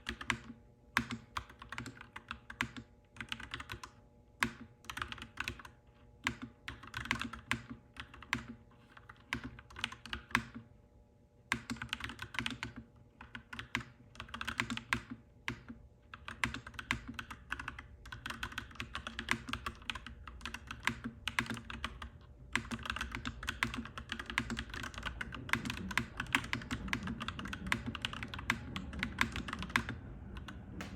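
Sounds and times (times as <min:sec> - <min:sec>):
mechanical keyboard typing: 0:00.0 - 0:10.6, 0:11.5 - 0:30.9
low background hum: 0:00.0 - 0:30.9.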